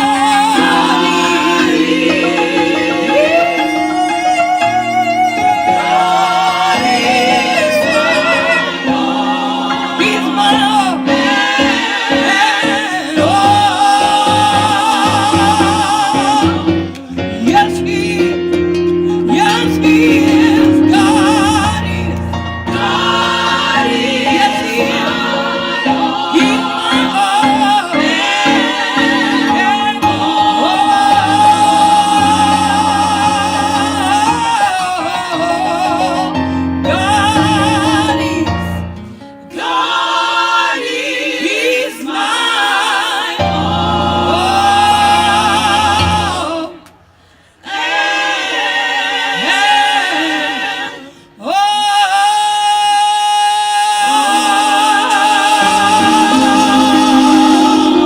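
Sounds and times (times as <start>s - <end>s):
gospel choir singing: 0.0s - 58.0s.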